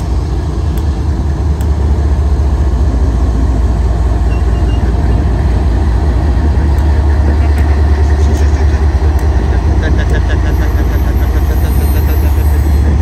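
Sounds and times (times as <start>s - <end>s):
diesel locomotive engine rumbling: 0.0s - 13.0s.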